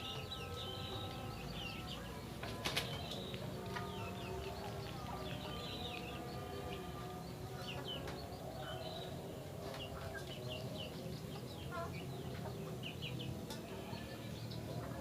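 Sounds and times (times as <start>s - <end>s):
chickens clucking: 0.0s - 8.6s, 9.3s - 15.0s
small birds chirping: 0.0s - 15.0s.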